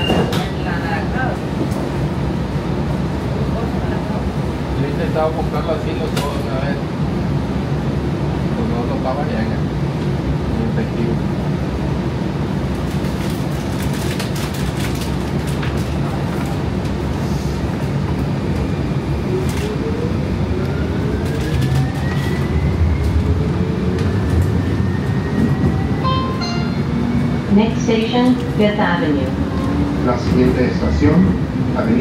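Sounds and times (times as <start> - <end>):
train interior hum and rumble: 0.0 - 32.0.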